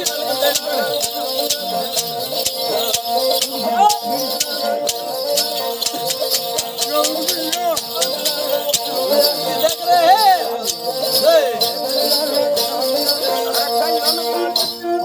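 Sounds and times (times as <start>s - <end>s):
bells jingling: 0.0s - 15.0s
bowed fiddle sliding melody: 0.0s - 15.0s.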